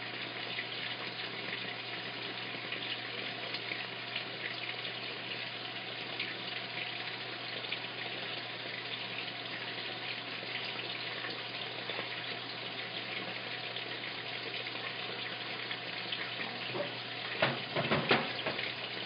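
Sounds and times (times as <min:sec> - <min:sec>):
water pouring into washing machine: 0:00.0 - 0:19.0.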